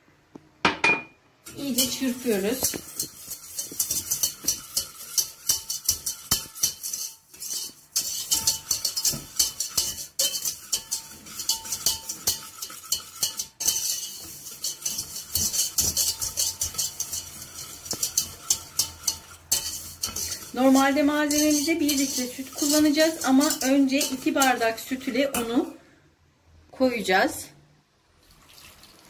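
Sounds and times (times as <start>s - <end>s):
whisk clicking against metal pot: 1.5s - 25.6s.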